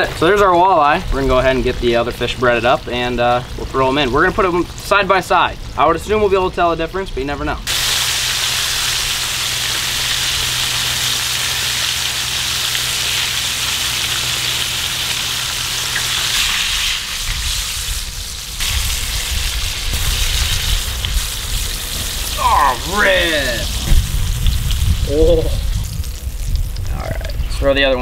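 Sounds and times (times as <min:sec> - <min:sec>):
fish deep-frying in oil: 0:00.0 - 0:27.4.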